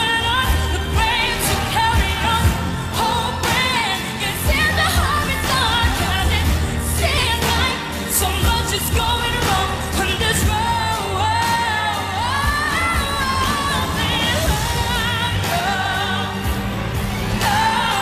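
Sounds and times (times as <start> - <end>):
band accompaniment: 0.0 - 18.0
woman singing pop ballad: 0.0 - 18.0.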